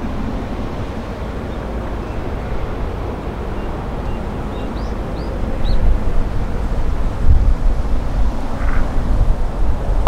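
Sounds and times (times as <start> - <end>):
distant jet engine rumble: 0.0 - 10.0
wind buffeting microphone: 0.0 - 10.0.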